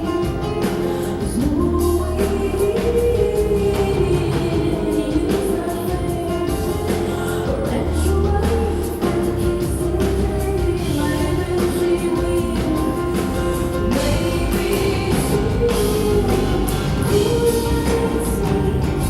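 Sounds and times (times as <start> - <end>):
rock band playing live: 0.0 - 19.0
woman singing: 0.0 - 19.0.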